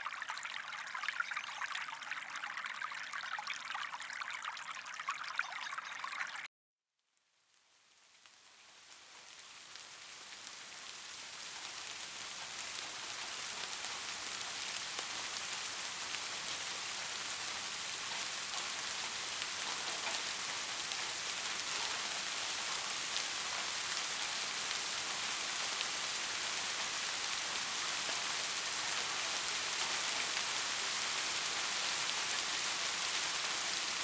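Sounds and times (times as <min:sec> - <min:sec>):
steady rain: 0:00.0 - 0:06.5, 0:07.8 - 0:34.0.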